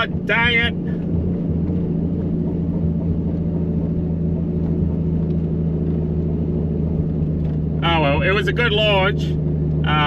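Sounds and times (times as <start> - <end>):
car engine droning steadily: 0.0 - 10.0.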